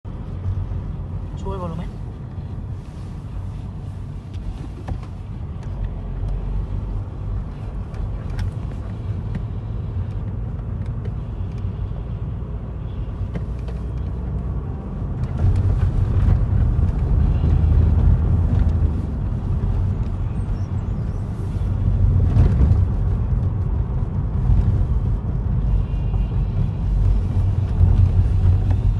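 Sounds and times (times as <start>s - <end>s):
truck engine and road rumble: 0.0s - 28.9s.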